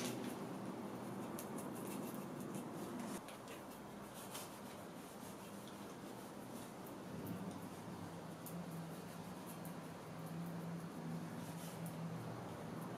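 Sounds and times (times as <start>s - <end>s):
faint low hum: 0.0s - 12.9s.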